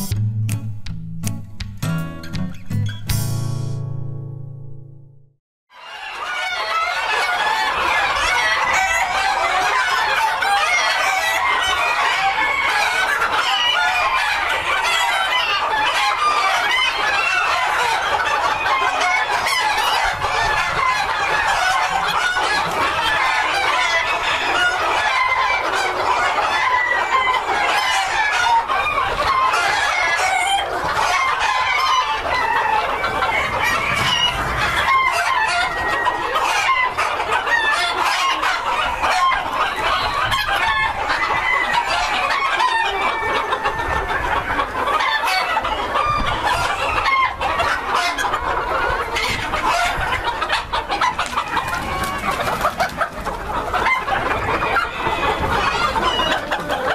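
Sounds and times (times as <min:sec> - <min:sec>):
chickens clucking: 0:05.8 - 0:56.9.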